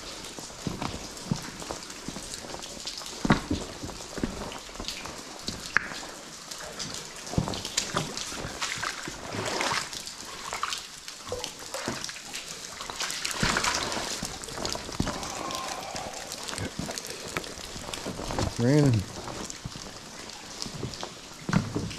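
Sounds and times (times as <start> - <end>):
water splashing under wading steps: 0.0 - 21.9
drops pattering into water: 0.5 - 21.9.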